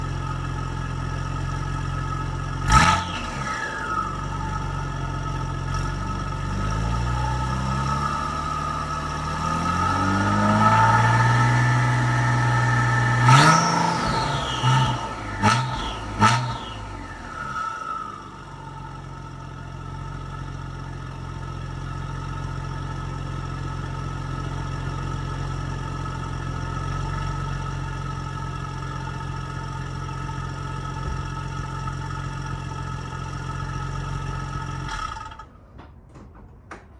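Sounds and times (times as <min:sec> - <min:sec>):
car engine revving and idling: 0:00.0 - 0:35.5.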